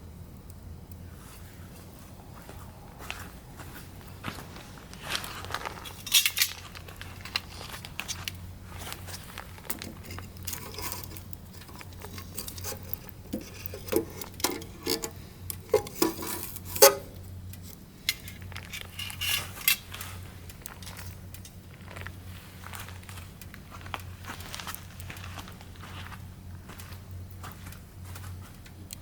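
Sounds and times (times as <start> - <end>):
firewood crackling and popping: 0.0 - 29.0.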